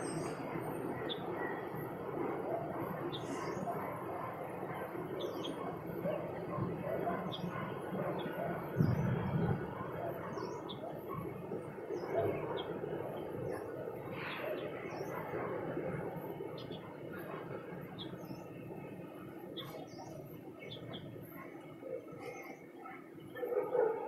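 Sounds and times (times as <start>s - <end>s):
outdoor ambience: 0.0s - 24.0s
small birds chirping: 0.0s - 24.0s.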